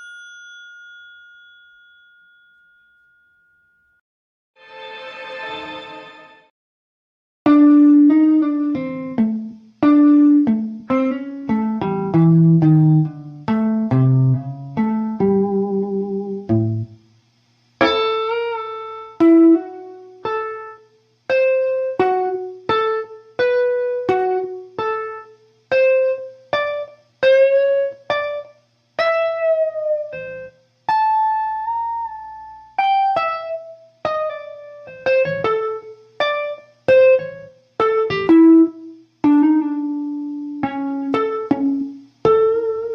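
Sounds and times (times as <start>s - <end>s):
guitar playing slow blues notes: 7.5s - 16.9s, 17.8s - 42.9s.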